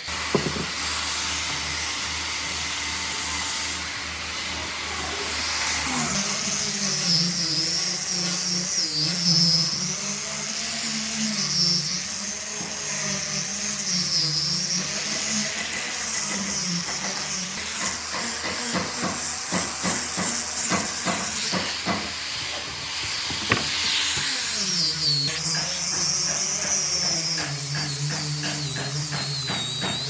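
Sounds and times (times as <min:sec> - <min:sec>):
woodworking power tool running: 0:00.0 - 0:30.0.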